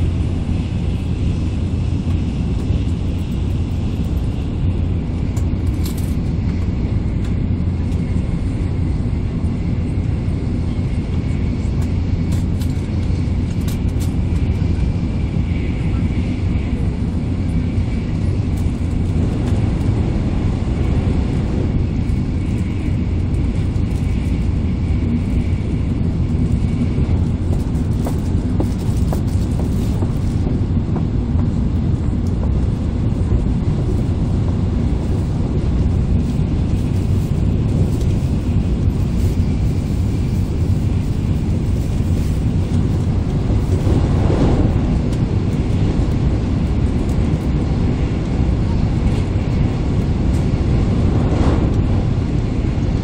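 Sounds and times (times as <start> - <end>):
high-speed train rumble inside cabin: 0.0 - 53.0.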